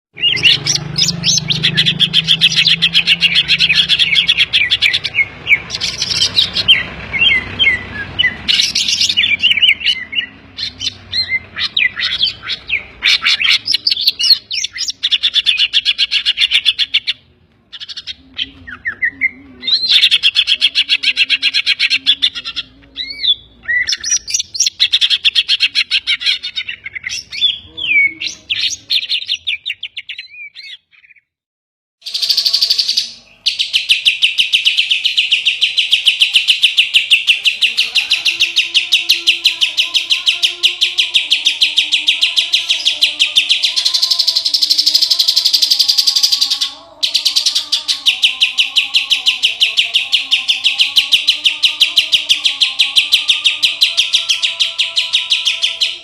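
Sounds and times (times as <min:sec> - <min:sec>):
bird singing trills and whistles: 0:00.1 - 0:31.3, 0:32.0 - 0:56.0.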